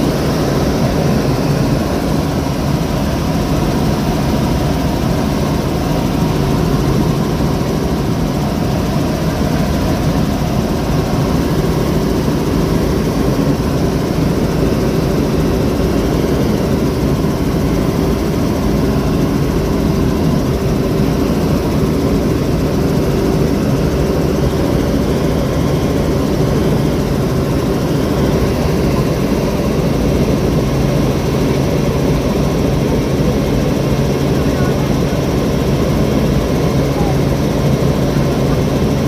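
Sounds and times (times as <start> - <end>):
helicopter engine and rotor noise: 0.0 - 39.0.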